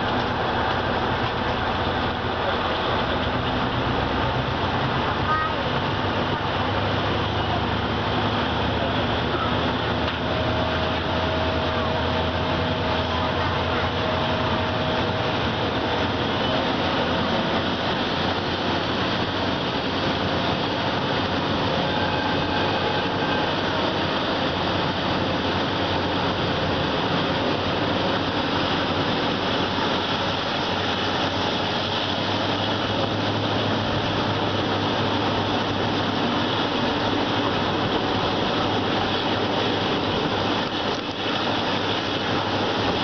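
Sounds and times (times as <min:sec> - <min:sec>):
rushing air: 0:00.0 - 0:43.0
train wheels on rails: 0:00.0 - 0:43.0.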